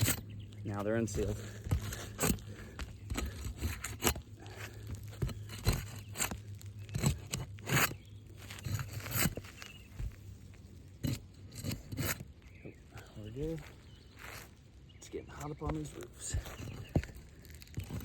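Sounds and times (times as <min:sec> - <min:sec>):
roof shingles scraping and crunching: 0:00.0 - 0:14.7, 0:15.4 - 0:18.0.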